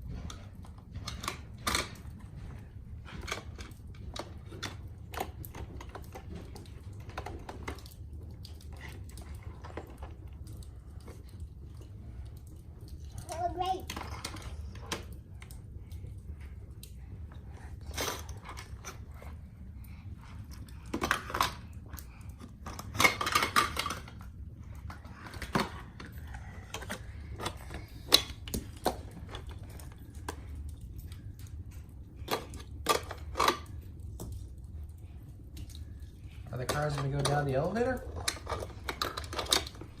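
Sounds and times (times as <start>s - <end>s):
faint low hum: 0.0s - 40.0s
toy cars clattering on plastic: 0.1s - 2.5s, 3.1s - 16.2s, 17.4s - 19.4s, 20.2s - 34.5s, 35.6s - 40.0s.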